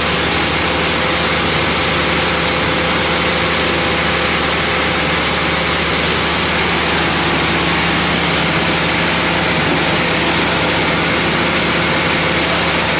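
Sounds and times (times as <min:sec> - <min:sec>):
engine running loudly: 0:00.0 - 0:12.9.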